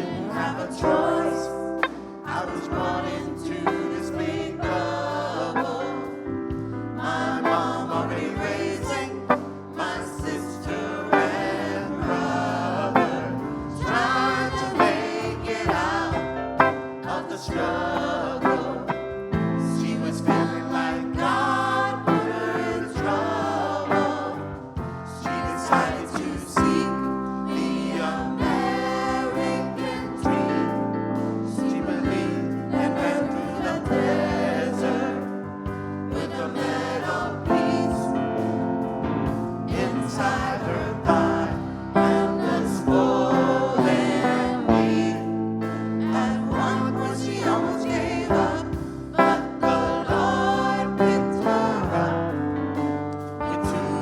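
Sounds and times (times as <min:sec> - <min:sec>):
choir singing: 0:00.0 - 0:54.0
instrumental accompaniment: 0:00.0 - 0:54.0.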